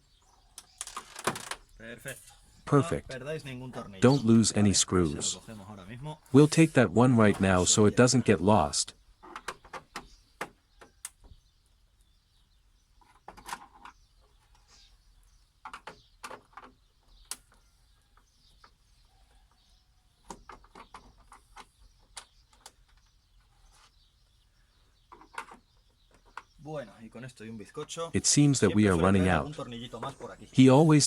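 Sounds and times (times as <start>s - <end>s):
birds chirping faintly: 0.0s - 31.0s.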